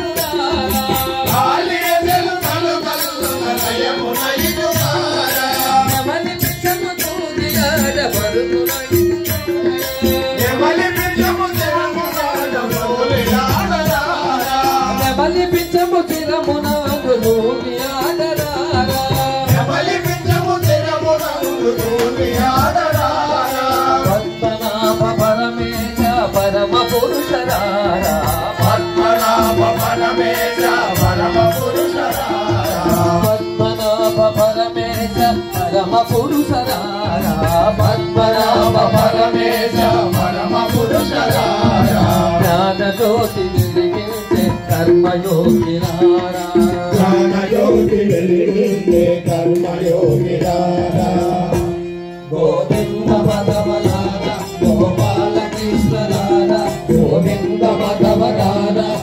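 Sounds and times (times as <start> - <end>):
group devotional singing: 0.0 - 59.0
steady percussion beat: 0.0 - 59.0.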